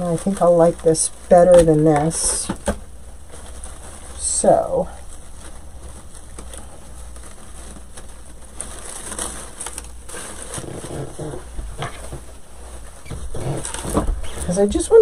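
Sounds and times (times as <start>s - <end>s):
faint low humming: 0.0s - 15.0s
rustling artificial greenery: 0.0s - 15.0s.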